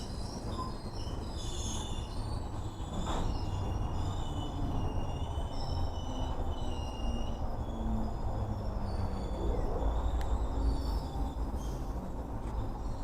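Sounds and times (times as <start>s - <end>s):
freight train rumbling: 0.0s - 13.0s
train wheels squealing: 0.0s - 13.0s.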